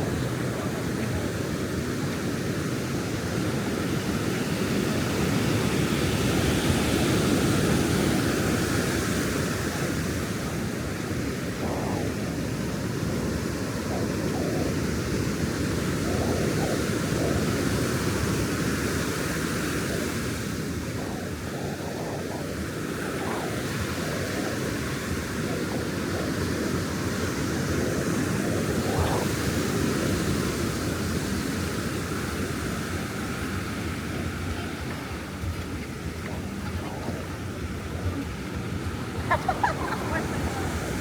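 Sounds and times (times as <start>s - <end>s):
ocean surf on beach: 0.0s - 41.0s.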